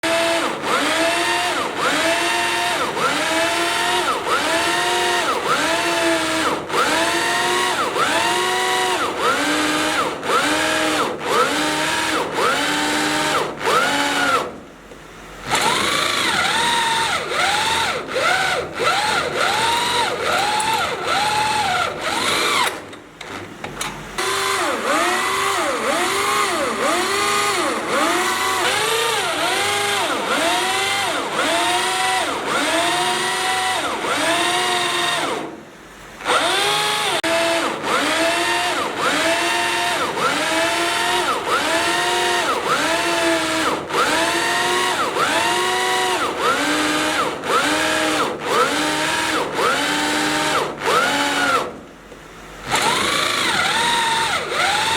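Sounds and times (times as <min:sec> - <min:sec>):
power drill drilling through steel: 0:00.0 - 0:14.6, 0:15.4 - 0:22.9, 0:24.2 - 0:35.5, 0:36.2 - 0:51.8, 0:52.6 - 0:54.9.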